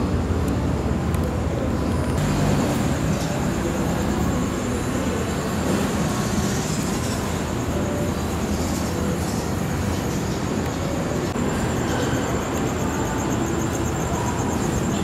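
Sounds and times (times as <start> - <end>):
station platform rumble and hum: 0.0 - 15.0.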